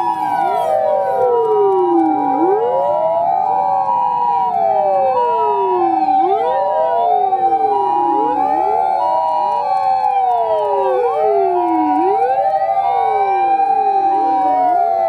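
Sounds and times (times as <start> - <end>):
ambulance two-tone siren: 0.0 - 15.0
fire engine sirens wailing: 0.0 - 15.0.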